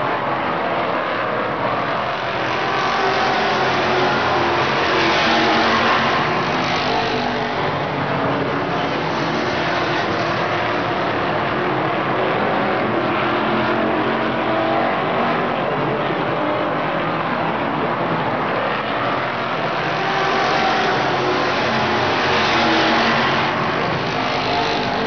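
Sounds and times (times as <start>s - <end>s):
race car engines droning: 0.0s - 25.0s.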